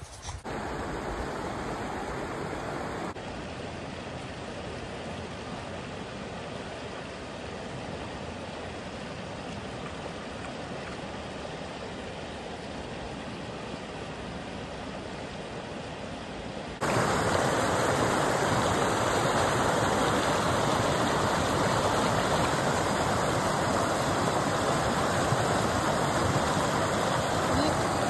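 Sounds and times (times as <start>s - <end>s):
creek water rushing over rocks: 0.5s - 28.0s.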